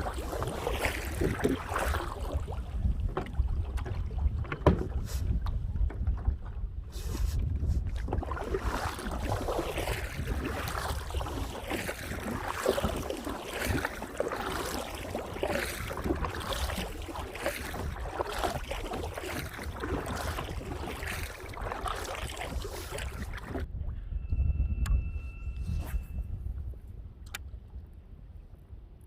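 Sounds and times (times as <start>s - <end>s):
water splashing around kayak: 0.0s - 23.8s
wind rumble on microphone: 0.0s - 29.0s.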